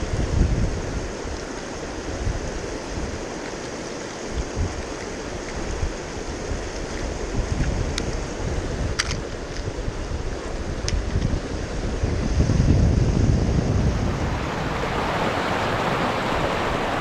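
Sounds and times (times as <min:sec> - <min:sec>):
wind buffeting microphone: 0:00.0 - 0:03.4, 0:04.2 - 0:17.0
rushing river water: 0:00.0 - 0:17.0.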